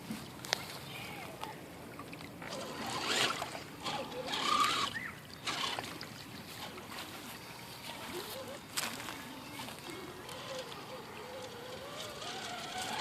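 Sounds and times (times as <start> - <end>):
toy car tires splashing water: 2.0 - 13.0.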